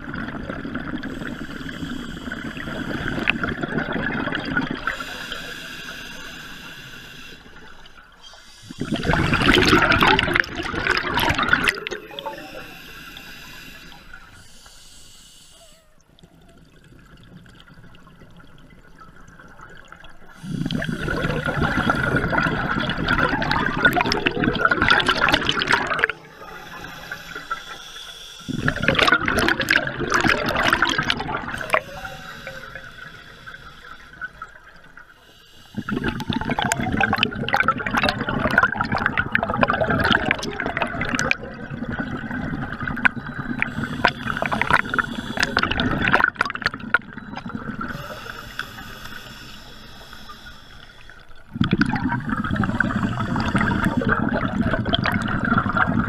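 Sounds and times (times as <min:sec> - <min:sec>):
underwater bubbles bursting: 0:00.0 - 0:05.5, 0:07.5 - 0:14.4, 0:16.0 - 0:27.8, 0:28.5 - 0:49.4, 0:50.0 - 0:56.0.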